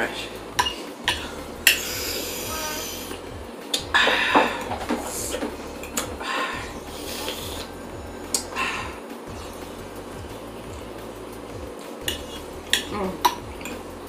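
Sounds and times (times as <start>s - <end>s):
person chewing and slurping: 0.5s - 14.0s.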